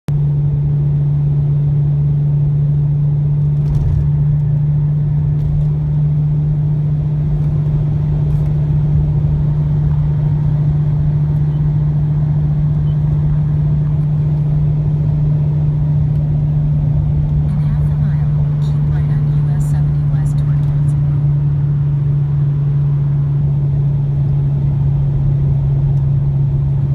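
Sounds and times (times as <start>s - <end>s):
car exhaust drone: 0.1s - 26.9s.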